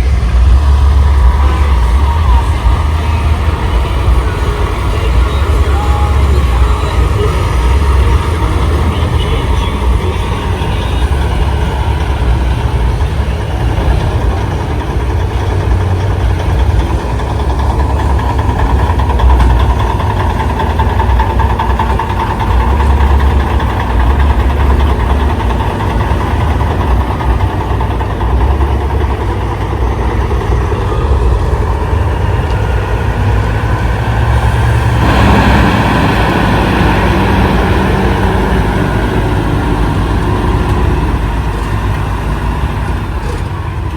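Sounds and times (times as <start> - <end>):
diesel truck engines rumbling: 0.0 - 43.9.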